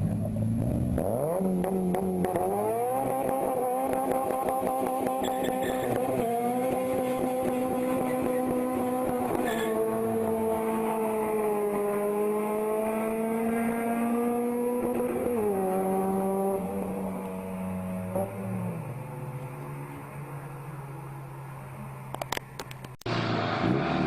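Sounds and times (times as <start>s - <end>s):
car engine revving high: 0.0s - 21.6s, 23.1s - 24.0s.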